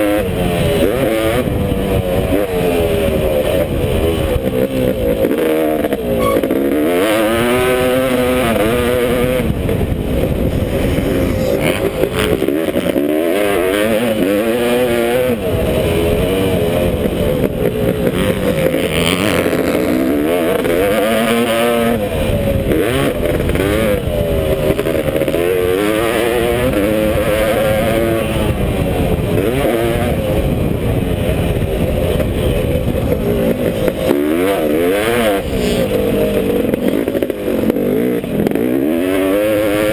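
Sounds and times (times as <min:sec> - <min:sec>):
two-stroke motocross engine revving: 0:00.0 - 0:39.9.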